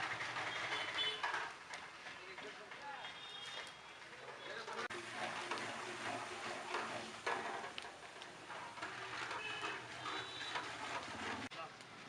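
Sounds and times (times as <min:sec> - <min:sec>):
irregular clicks and clatter: 0:00.0 - 0:11.5.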